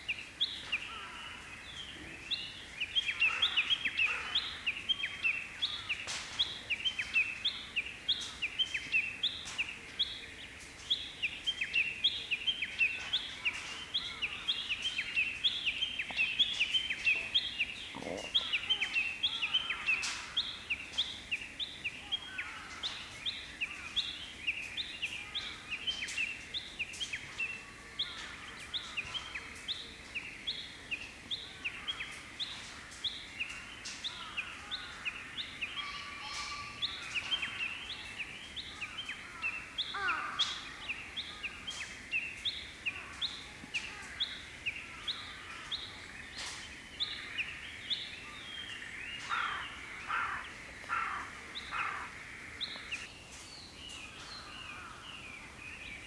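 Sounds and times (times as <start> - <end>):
faint outdoor background noise: 0.0 - 56.0.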